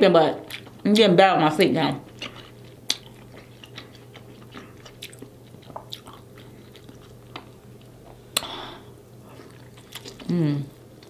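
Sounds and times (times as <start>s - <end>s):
steady low hum: 0.0s - 11.0s
soft chewing: 0.4s - 1.1s, 2.0s - 8.5s, 9.1s - 11.0s.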